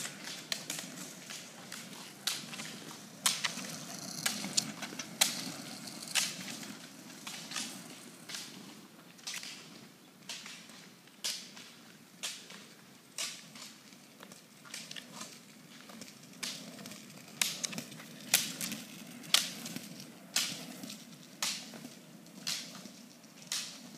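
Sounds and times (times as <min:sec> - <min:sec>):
ski pole tips clicking on asphalt: 0:00.0 - 0:09.7, 0:13.2 - 0:23.9
roller-ski wheels rumbling: 0:00.0 - 0:10.9, 0:12.8 - 0:23.9.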